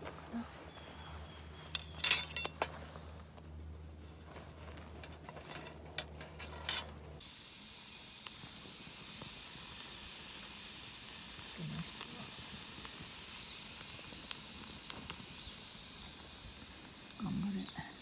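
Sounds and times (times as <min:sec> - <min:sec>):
kindling fire hissing: 0:03.0 - 0:18.0.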